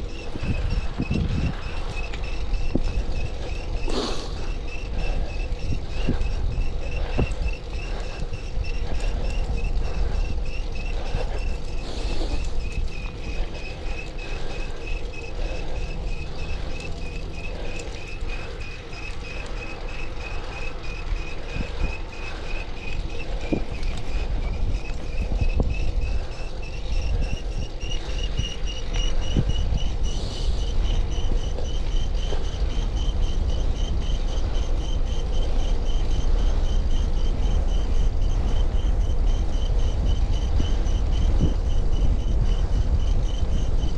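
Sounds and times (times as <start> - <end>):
bicycle chain chirping: 0.0 - 43.9
wind rumble on microphone: 0.0 - 43.9.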